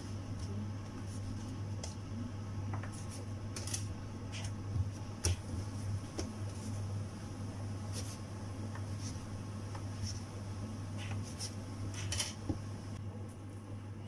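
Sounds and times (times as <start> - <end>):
soft dough handling: 0.0 - 14.0
steady low hum: 0.0 - 14.0.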